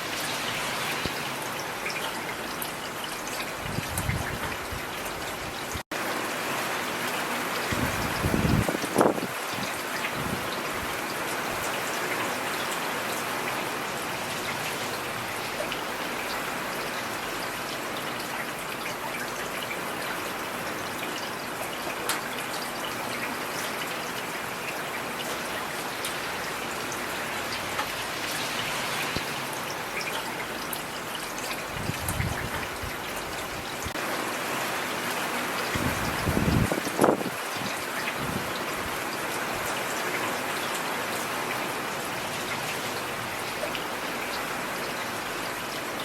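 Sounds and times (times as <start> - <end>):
rain falling on a street: 0.0 - 46.0.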